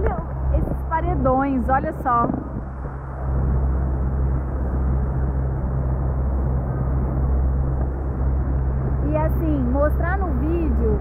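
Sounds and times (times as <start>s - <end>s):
speedboat engine humming: 0.0s - 11.0s.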